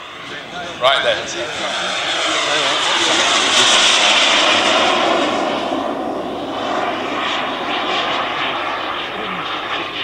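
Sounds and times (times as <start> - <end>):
model jet flying past: 0.0 - 10.0.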